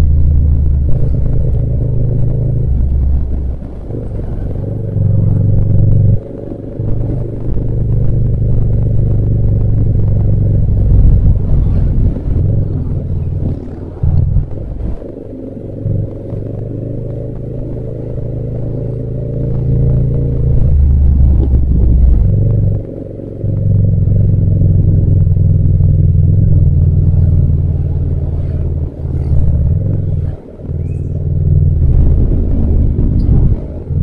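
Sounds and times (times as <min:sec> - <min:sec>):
motorcycle engine: 0:00.0 - 0:34.0.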